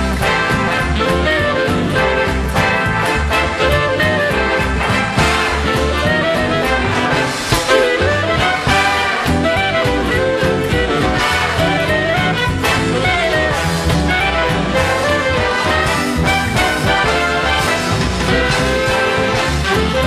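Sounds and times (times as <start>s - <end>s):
swing instrumental music: 0.0s - 20.0s.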